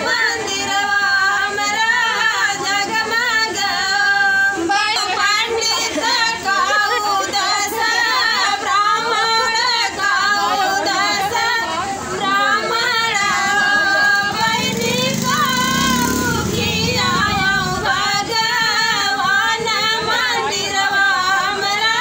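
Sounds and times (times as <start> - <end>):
women singing a folk song: 0.0 - 22.0.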